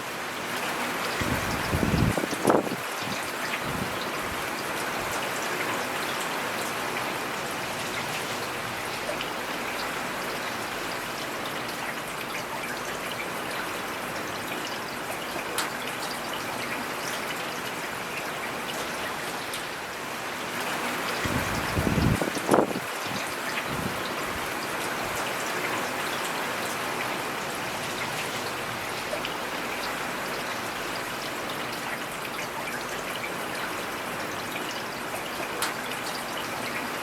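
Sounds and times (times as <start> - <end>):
rain falling in forest: 0.0 - 37.0
trickling water: 0.0 - 37.0.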